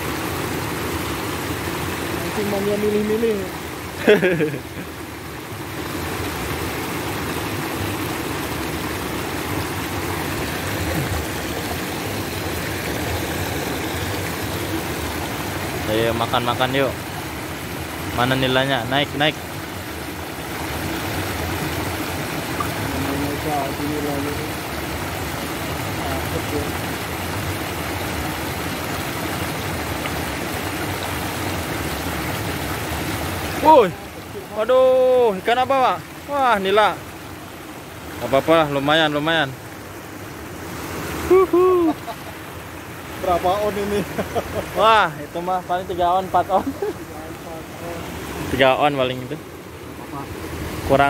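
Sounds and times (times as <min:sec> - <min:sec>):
water pouring into pond: 0:00.0 - 0:51.0.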